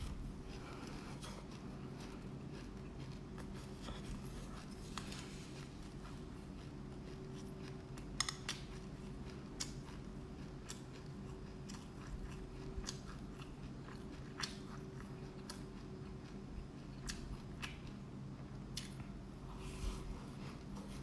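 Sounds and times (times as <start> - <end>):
seeds being chewed: 0.0 - 21.0
steady low hum: 0.0 - 21.0.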